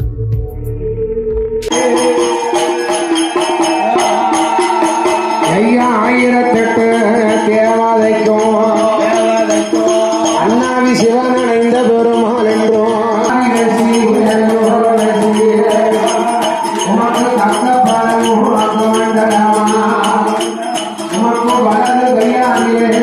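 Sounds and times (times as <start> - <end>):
music with jingling bells: 1.6 - 23.0.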